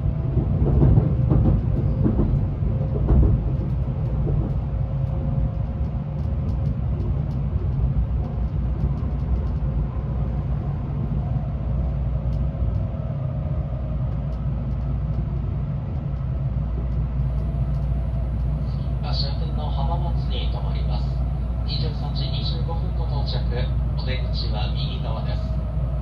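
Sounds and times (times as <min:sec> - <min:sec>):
train rumble inside passenger car: 0:00.0 - 0:26.0.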